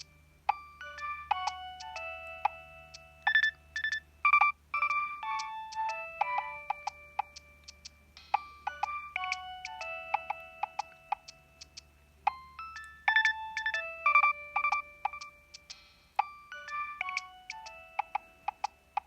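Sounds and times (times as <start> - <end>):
polyphonic ringtone melody: 0.0 - 19.0.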